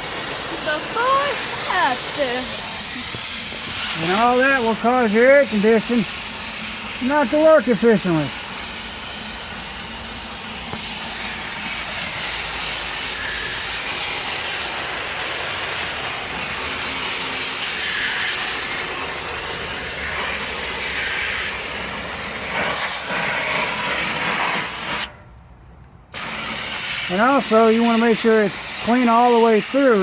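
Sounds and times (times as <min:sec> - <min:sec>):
garden hose spray hissing: 0:00.0 - 0:25.1, 0:26.2 - 0:30.0.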